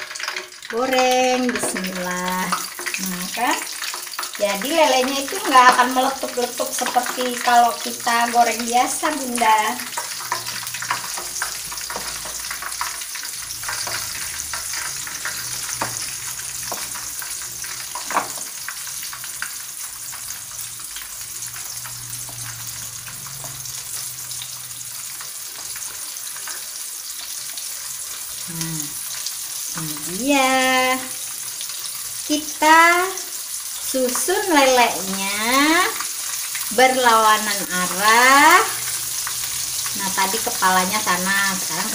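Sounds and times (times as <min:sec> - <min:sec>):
fish frying in hot oil: 0:00.0 - 0:41.9.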